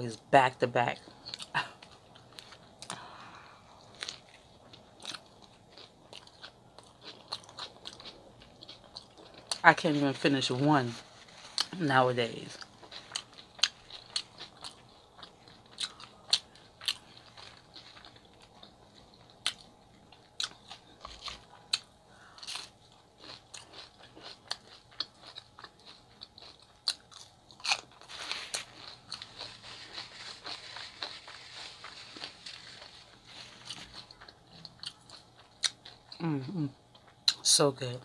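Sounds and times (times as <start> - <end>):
close chewing and mouth smacks: 1.2 - 3.0, 3.8 - 9.7, 12.5 - 37.5.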